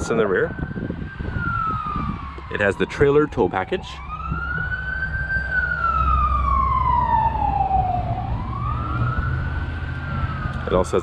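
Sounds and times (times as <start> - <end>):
siren wailing: 0.0 - 11.0.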